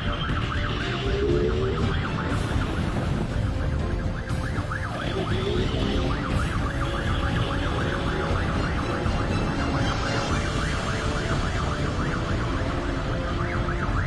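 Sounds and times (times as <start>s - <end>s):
police siren yelping: 0.0s - 14.0s.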